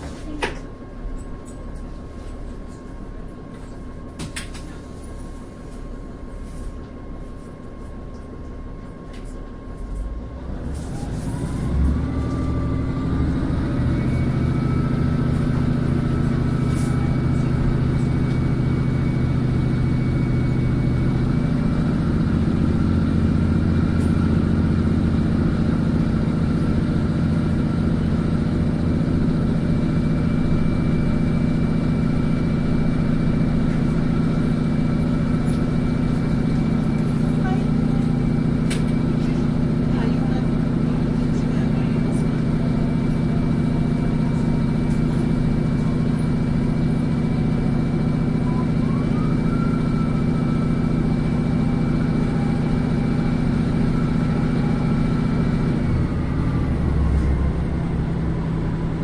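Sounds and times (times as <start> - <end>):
train carriage rumble: 0.0 - 59.0
train motors humming whine: 0.0 - 59.0.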